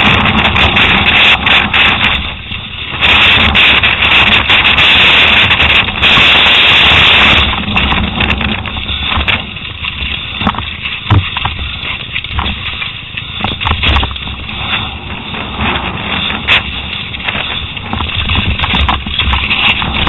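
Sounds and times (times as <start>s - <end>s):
bike rattling clicks and knocks: 0.0s - 20.0s
bike tyres rolling over dirt: 0.0s - 20.0s
wind buffeting microphone: 0.0s - 20.0s.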